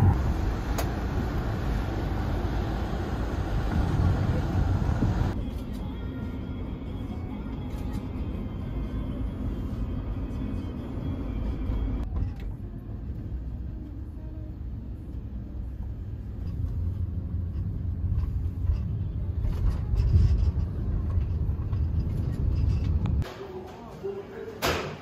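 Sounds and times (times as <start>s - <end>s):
vehicle road rumble: 0.0s - 23.3s.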